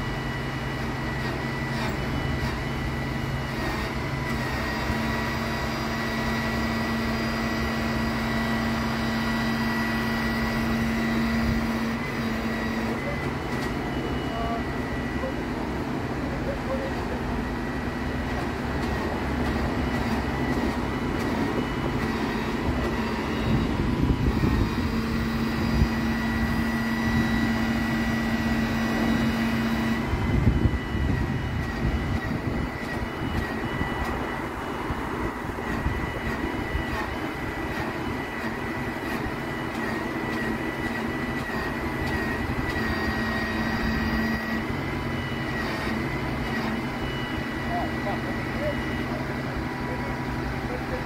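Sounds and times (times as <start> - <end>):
crane engine drone: 0.0 - 51.0
high hydraulic whine: 0.0 - 51.0.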